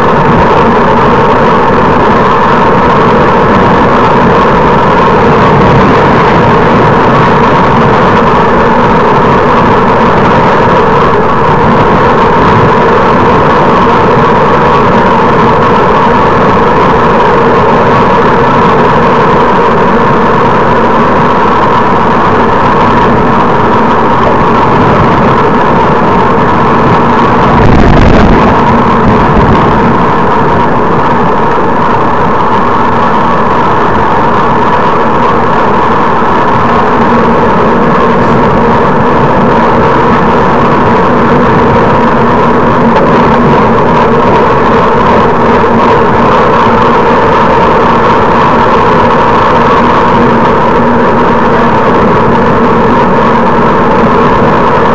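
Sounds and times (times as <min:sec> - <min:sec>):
low wind buffet: 0:00.0 - 0:54.9
wind noise on microphone: 0:00.0 - 0:54.9.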